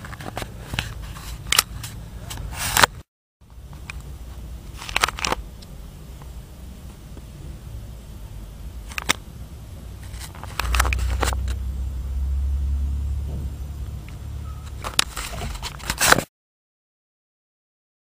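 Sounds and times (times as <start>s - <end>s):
car engine and road rumble: 0.0s - 16.2s.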